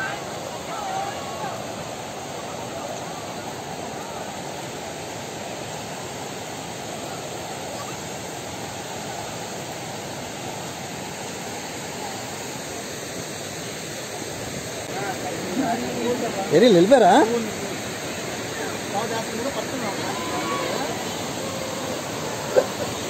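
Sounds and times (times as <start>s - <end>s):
waterfall and stream rushing: 0.0s - 23.0s.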